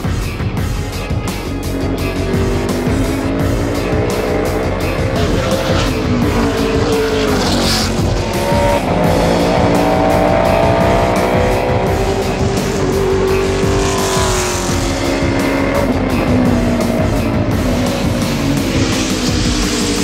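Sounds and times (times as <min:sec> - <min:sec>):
background music: 0:00.0 - 0:20.0
race truck engine at speed: 0:00.0 - 0:20.0.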